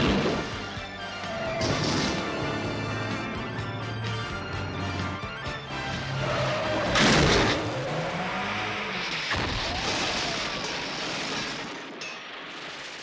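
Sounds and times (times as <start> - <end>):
car engines running: 0.0 - 11.3
road noise: 0.0 - 12.0.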